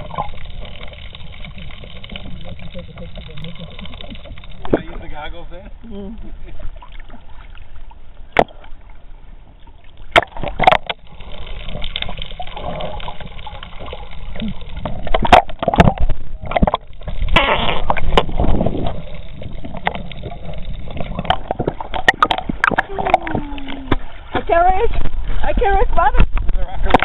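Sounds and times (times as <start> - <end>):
muffled underwater sloshing: 0.0 - 27.0.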